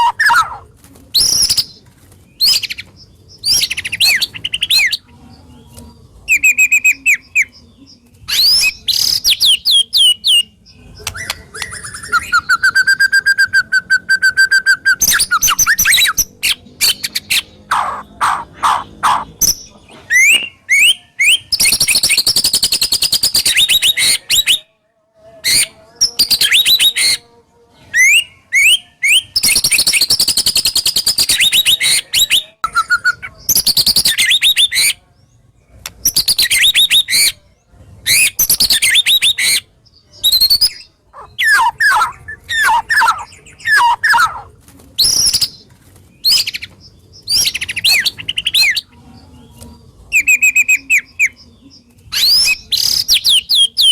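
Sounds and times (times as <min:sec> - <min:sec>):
songbird singing whistles: 0:01.2 - 0:01.8, 0:02.4 - 0:05.1, 0:06.3 - 0:07.6, 0:08.3 - 0:24.7, 0:25.5 - 0:27.2, 0:27.9 - 0:35.0, 0:35.9 - 0:37.4, 0:38.0 - 0:45.6, 0:46.2 - 0:48.9, 0:50.1 - 0:51.5, 0:52.1 - 0:53.9.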